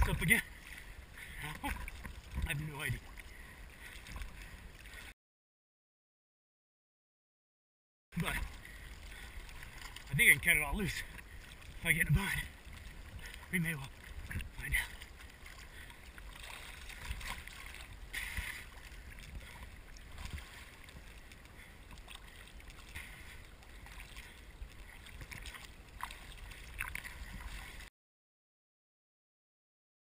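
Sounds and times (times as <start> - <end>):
lake water sloshing and splashing: 0.0 - 5.1, 8.2 - 27.9.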